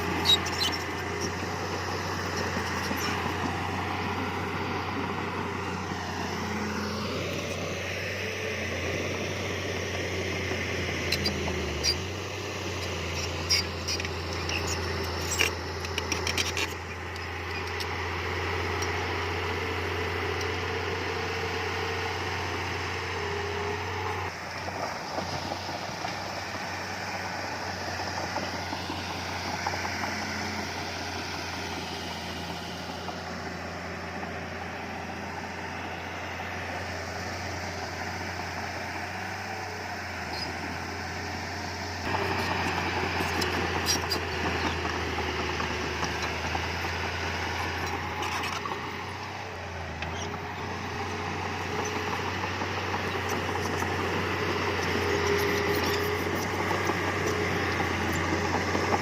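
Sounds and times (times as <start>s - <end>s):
heavy machinery engine hum: 0.0s - 59.0s.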